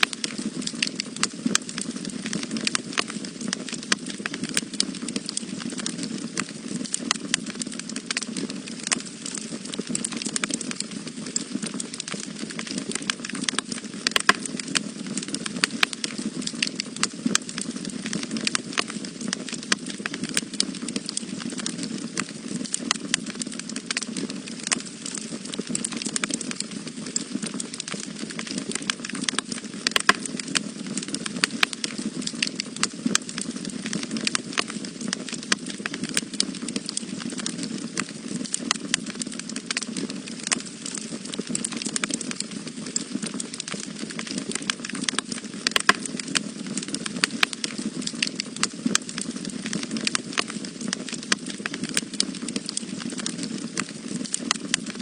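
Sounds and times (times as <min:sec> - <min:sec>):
low rumble of flames: 0:00.0 - 0:55.0
sharp fire crackles: 0:00.0 - 0:55.0.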